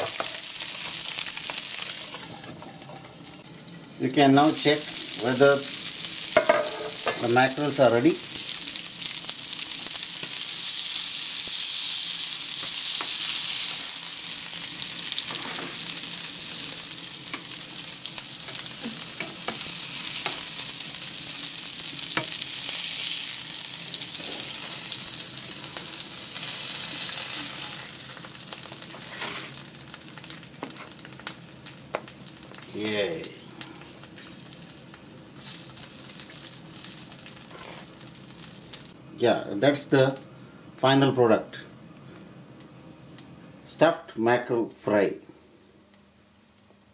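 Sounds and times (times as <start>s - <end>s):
fish sizzling in hot oil: 0.0s - 39.0s.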